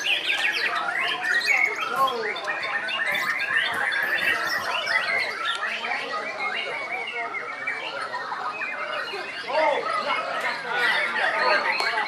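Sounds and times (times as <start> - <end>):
songbirds singing chorus: 0.0 - 12.0.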